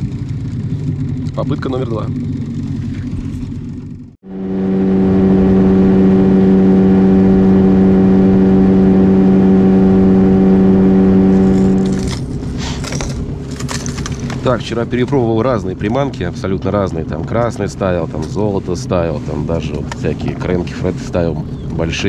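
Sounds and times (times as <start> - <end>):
outboard motor humming: 0.0 - 22.0.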